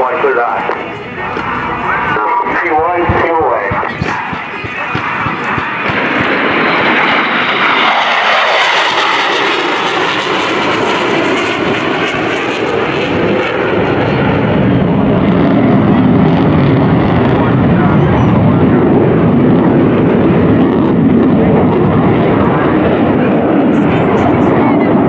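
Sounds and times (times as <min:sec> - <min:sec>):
deep jet rumble: 0:00.0 - 0:25.0
jet fighters passing low: 0:00.0 - 0:25.0.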